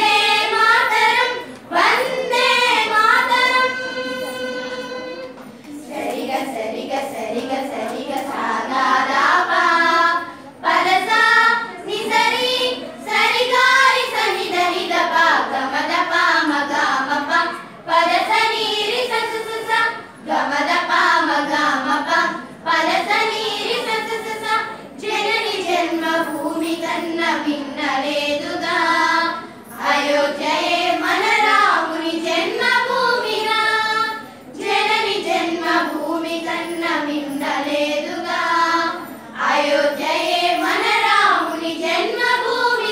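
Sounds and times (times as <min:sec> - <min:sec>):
girls singing in unison: 0:00.0 - 0:42.9.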